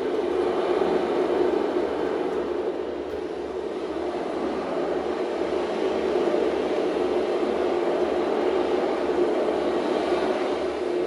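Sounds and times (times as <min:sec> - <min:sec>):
sea storm roar: 0:00.0 - 0:11.0.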